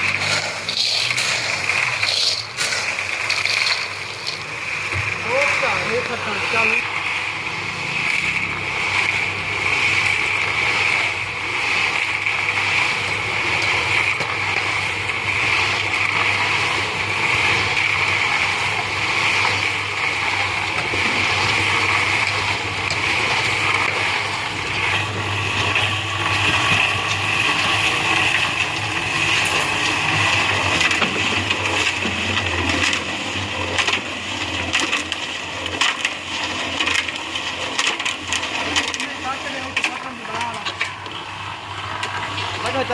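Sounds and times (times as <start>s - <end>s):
construction machinery running: 0.0s - 42.9s.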